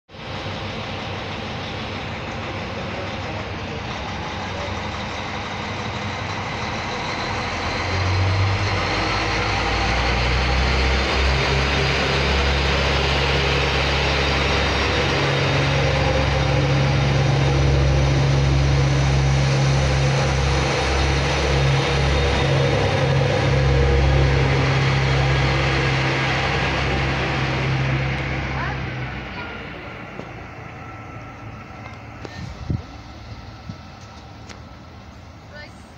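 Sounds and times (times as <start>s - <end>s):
train diesel engine droning: 0.1s - 35.9s
train rolling past rumble: 0.1s - 35.9s.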